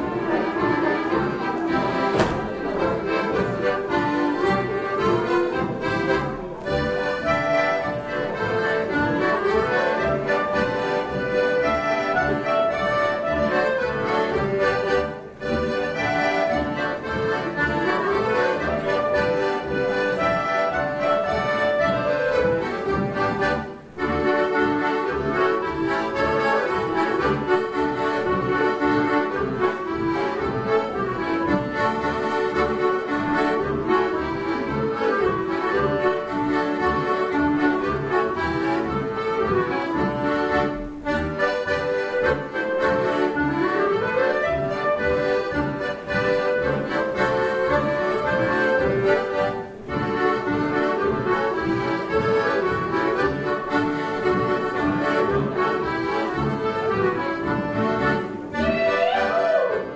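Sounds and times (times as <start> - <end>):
accordion folk band playing: 0.0 - 59.9.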